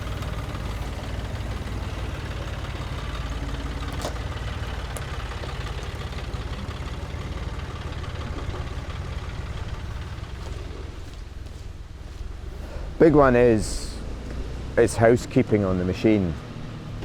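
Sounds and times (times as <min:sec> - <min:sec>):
sawmill engine idling: 0:00.0 - 0:17.0.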